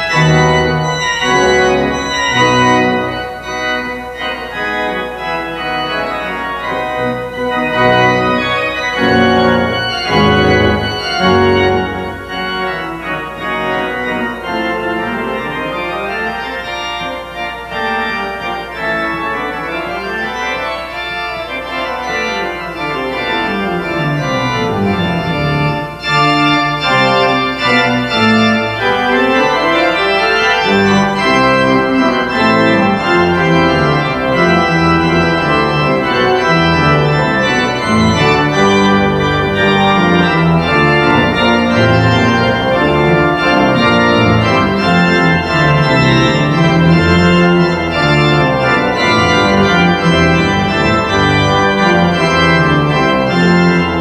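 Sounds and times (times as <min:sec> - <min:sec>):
organ playing sustained chords: 0:00.0 - 0:54.0.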